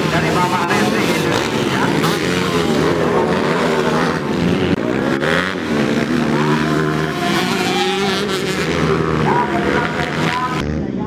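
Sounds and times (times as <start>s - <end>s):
motocross motorcycles revving: 0.0s - 11.0s.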